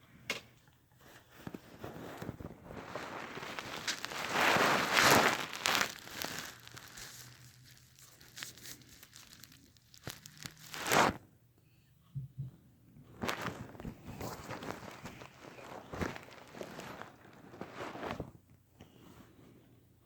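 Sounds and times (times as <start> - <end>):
rustling: 1.0 - 11.2, 13.1 - 19.5.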